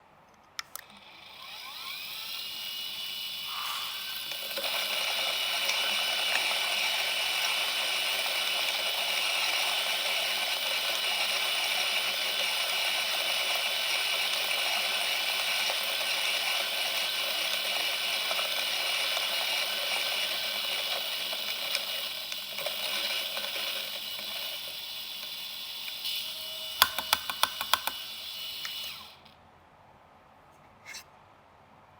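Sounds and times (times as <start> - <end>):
coffee grinder motor whining: 0.8 - 29.3
coffee beans grinding: 1.1 - 29.2.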